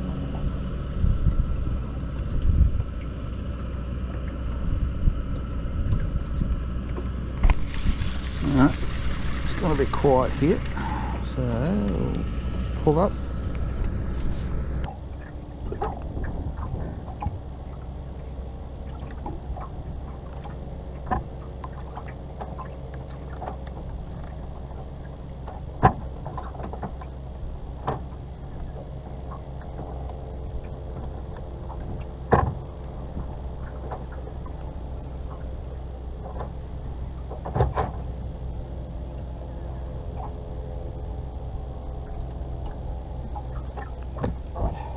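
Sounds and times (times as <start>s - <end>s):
knocks and clunks on boat: 0.0s - 7.9s, 13.4s - 44.9s
steady low rumble: 0.0s - 44.9s.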